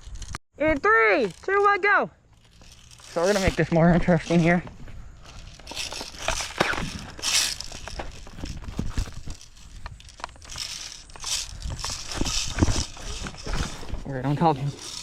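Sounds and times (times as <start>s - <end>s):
footsteps crunching: 1.2s - 15.0s
clothing and gear rustling: 2.3s - 15.0s.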